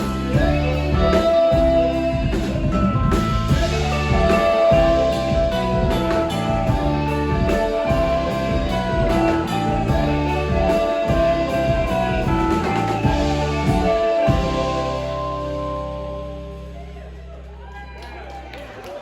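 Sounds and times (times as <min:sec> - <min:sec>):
drum kit: 0:00.0 - 0:17.3
electric guitar playing: 0:00.0 - 0:17.4.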